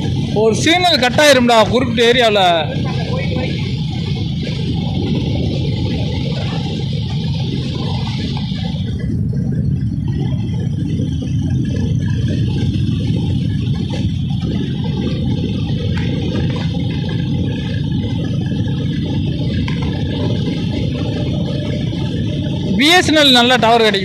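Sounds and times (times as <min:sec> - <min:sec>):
motorcycle engine rumble: 0:00.0 - 0:24.0
road noise: 0:00.0 - 0:24.0.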